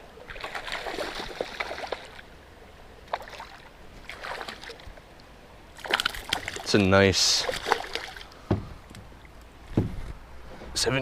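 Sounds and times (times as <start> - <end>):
faint moving water: 0.0 - 11.0.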